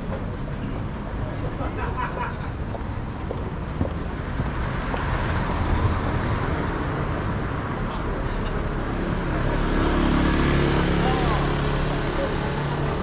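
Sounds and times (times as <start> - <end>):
passing cars road noise: 0.0 - 13.0.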